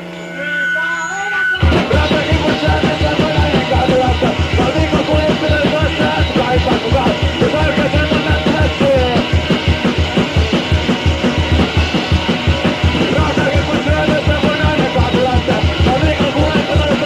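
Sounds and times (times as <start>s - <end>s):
punk rock band music: 0.0s - 17.0s
fast drum beat: 1.6s - 17.0s.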